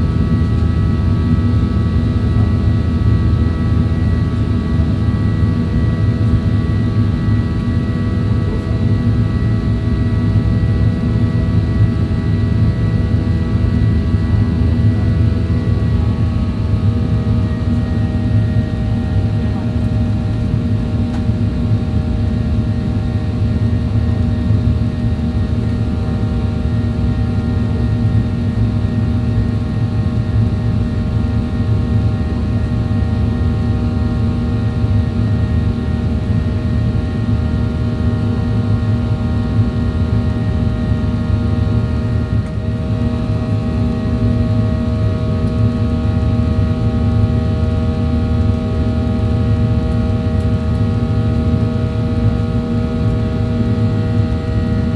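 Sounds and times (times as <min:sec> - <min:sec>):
jet engine and airflow rumble: 0:00.0 - 0:54.9.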